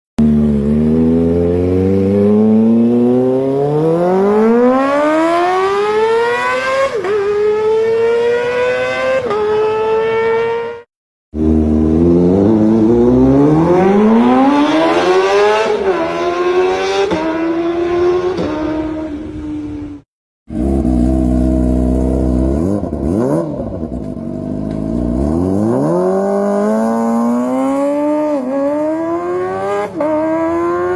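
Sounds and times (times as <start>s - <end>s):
motorcycle engine revving: 0.2s - 19.8s, 20.5s - 30.9s.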